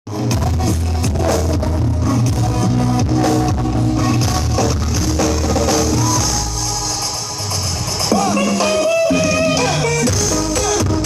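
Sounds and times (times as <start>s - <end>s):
loud music with bass: 0.1s - 11.0s.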